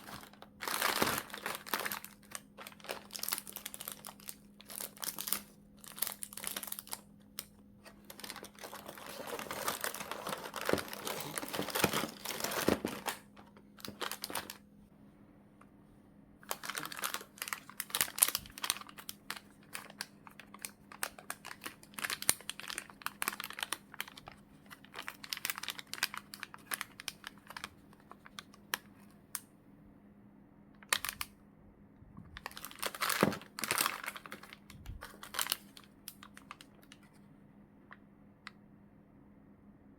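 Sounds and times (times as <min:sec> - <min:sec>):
plastic wrapping crinkling: 0:00.0 - 0:14.6, 0:16.4 - 0:28.9, 0:30.9 - 0:31.3, 0:32.4 - 0:37.2.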